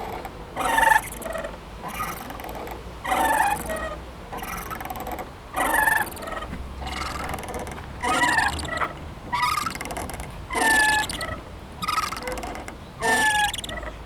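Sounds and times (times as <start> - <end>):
playground swing squeaking: 0.0 - 14.0.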